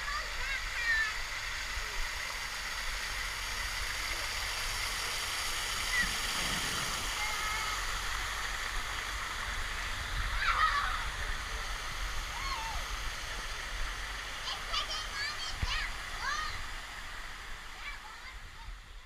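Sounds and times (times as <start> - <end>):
waterfall splashing: 0.1 - 18.4.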